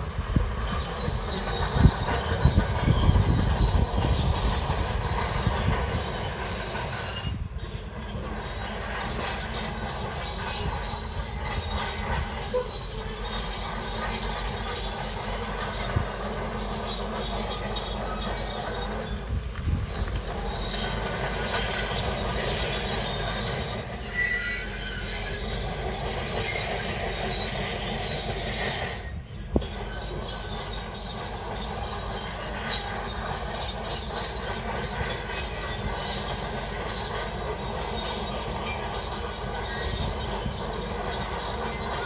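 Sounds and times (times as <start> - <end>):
bulldozer diesel engine: 0.0 - 42.0
steel tracks squealing and clattering: 0.0 - 42.0.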